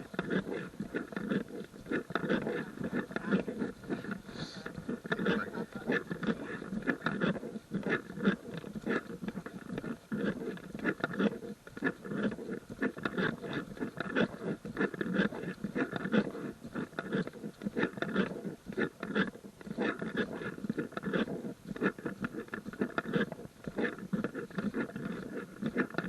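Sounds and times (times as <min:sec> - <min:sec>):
rustling and scraping: 0:00.0 - 0:26.0.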